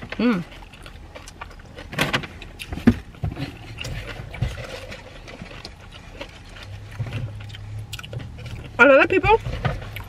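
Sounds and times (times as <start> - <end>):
person chewing: 0.0 - 8.8, 9.5 - 10.0
low steady car hum: 0.0 - 10.0.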